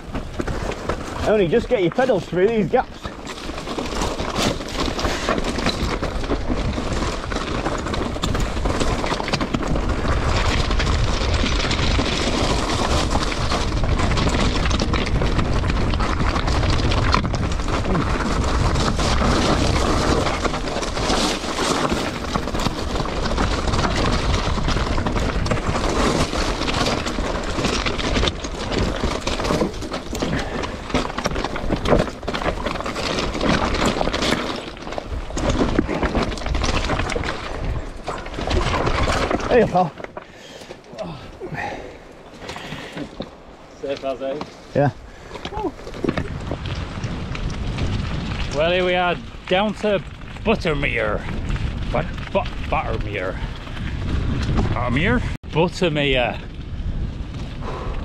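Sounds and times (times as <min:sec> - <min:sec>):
bike rattling: 0:00.0 - 0:58.0
bike tyres crunching over stones: 0:00.0 - 0:58.0.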